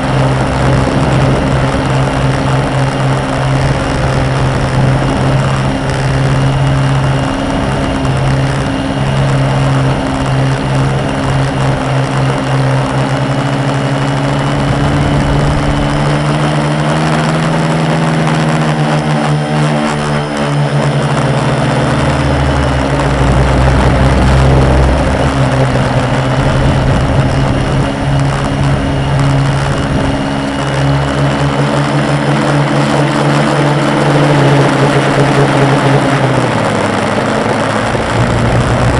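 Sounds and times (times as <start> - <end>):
low rumble: 0.0 - 18.6, 19.8 - 31.5, 36.3 - 38.9
drone motors buzzing: 0.0 - 38.9.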